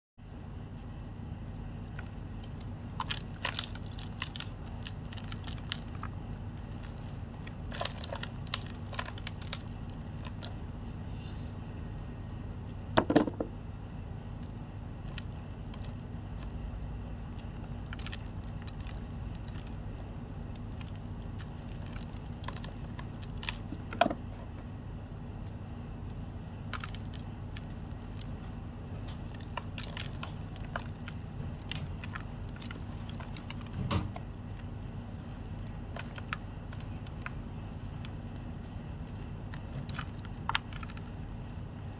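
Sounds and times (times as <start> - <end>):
steady low hum: 0.2 - 41.9.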